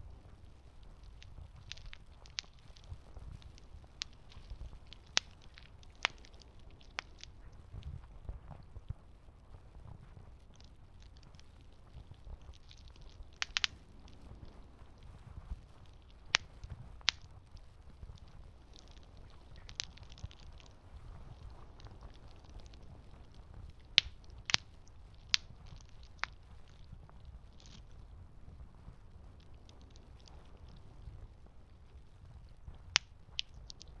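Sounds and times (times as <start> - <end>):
campfire crackling and popping: 0.0 - 34.0
low rumble of burning wood: 0.0 - 34.0.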